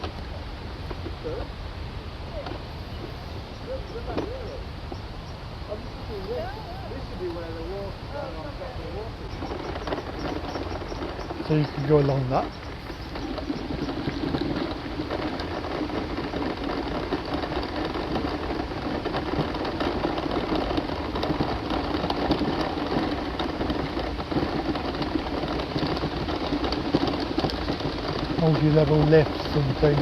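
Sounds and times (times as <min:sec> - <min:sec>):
small electric motor rattling: 0:06.0 - 0:30.0.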